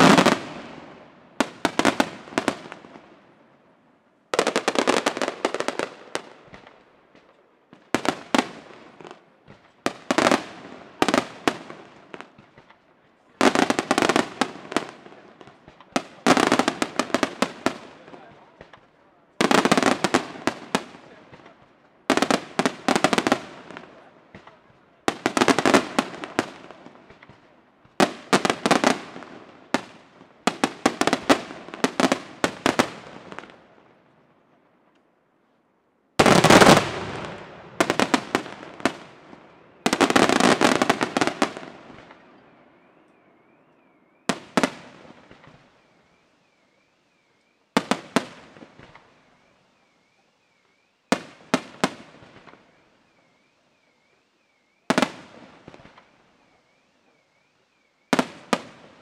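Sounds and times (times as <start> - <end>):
fireworks bursting in volleys: 0.0 - 34.9, 36.1 - 59.0.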